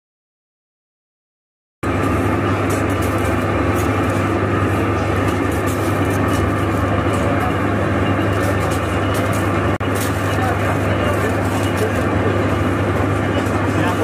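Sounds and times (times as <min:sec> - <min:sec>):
traffic hum: 0:01.8 - 0:14.0
crowd chatter: 0:02.1 - 0:14.0.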